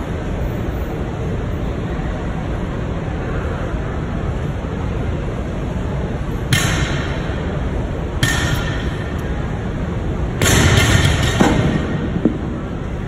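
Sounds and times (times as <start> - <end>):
gym background noise: 0.0 - 13.0.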